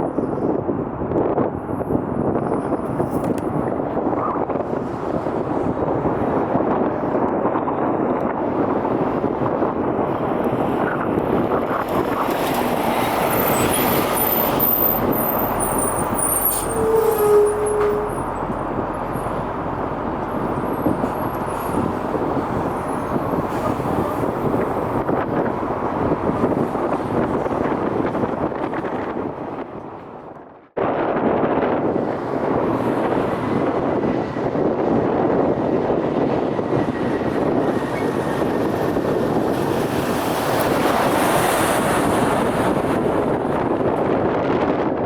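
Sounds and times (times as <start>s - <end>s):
wind on microphone: 0.0s - 45.0s.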